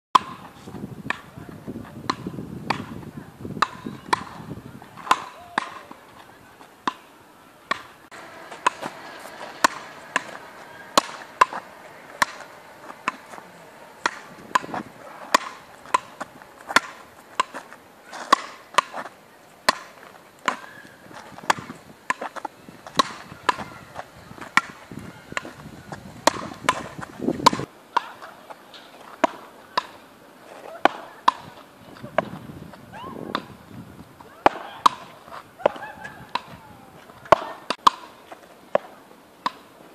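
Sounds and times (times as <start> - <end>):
paddles hitting a ball: 0.2 - 7.1, 7.7 - 30.0, 34.2 - 36.6, 37.2 - 39.6.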